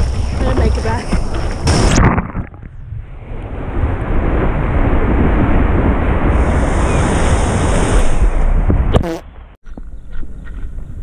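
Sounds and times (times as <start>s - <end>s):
wind buffeting camera: 0.0s - 11.0s.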